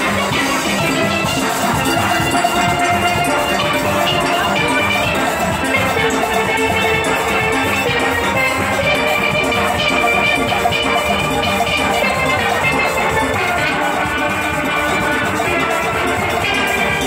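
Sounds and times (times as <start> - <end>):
steady drum beat: 0.0 - 17.0
steel pans playing melody: 0.0 - 17.0.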